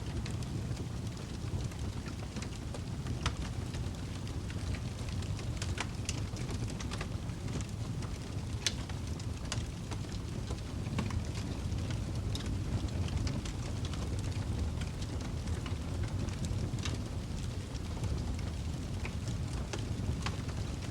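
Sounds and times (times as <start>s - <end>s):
fire crackling and popping: 0.0s - 20.9s
low rumble of flames: 0.0s - 20.9s.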